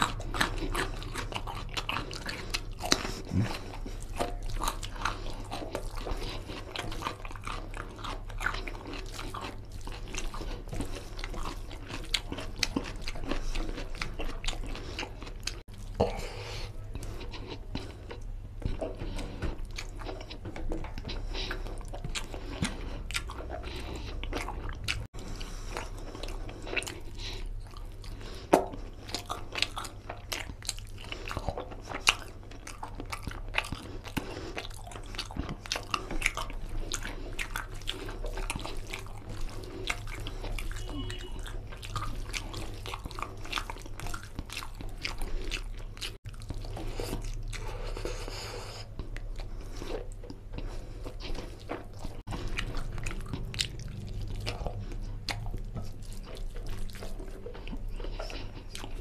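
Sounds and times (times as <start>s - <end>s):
chewing and mouth smacking: 0.0s - 59.0s
steady low hum: 0.0s - 59.0s.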